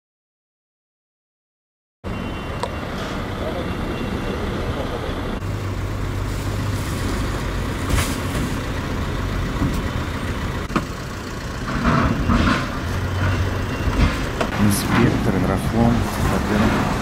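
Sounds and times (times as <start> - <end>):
vehicle engine idling: 2.1 - 17.0.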